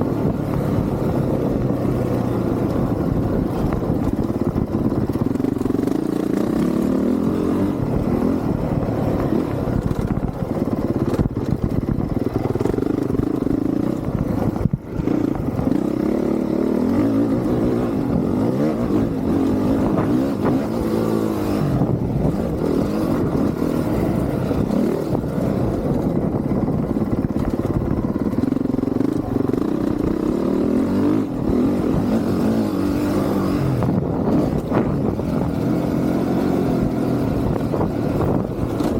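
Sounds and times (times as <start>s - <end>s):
motocross engine revving: 0.7s - 25.8s, 27.2s - 38.9s.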